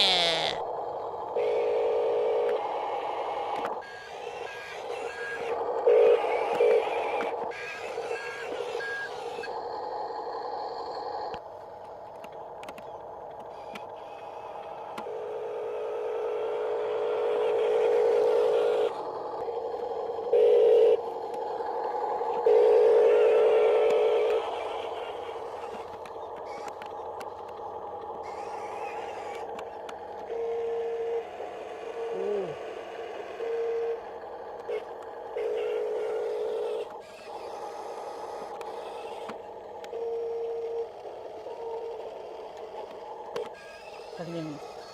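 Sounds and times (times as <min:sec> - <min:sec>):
electric gear motors whining: 0:00.0 - 0:44.9.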